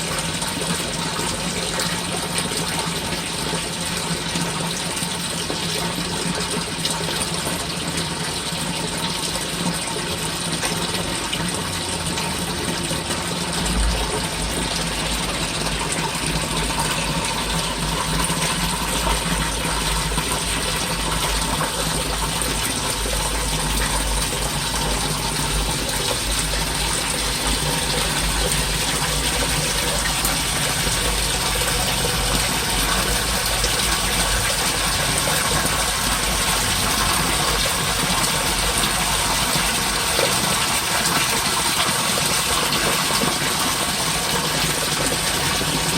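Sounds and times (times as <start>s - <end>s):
water running through drain: 0.0s - 45.9s.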